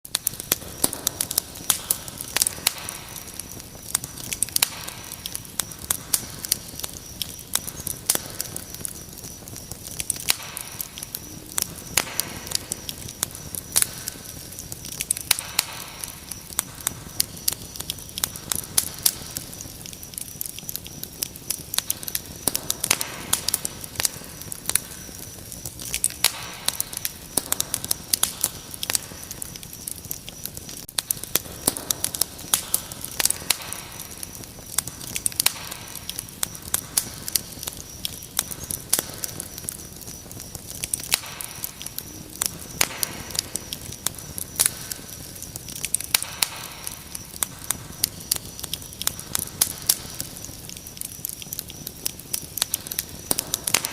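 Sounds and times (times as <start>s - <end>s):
wood fire crackling and popping: 0.0s - 53.9s
cricket trill: 0.1s - 53.9s.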